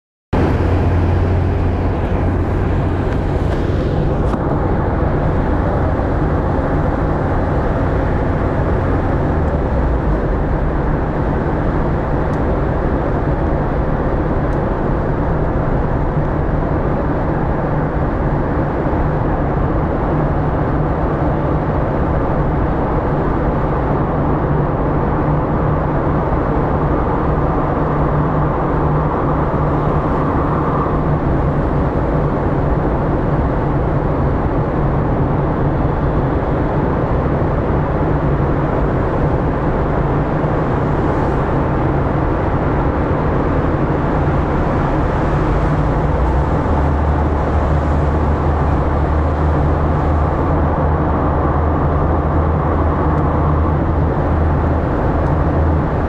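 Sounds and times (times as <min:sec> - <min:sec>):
car engine and tyre noise: 0:00.3 - 0:56.0.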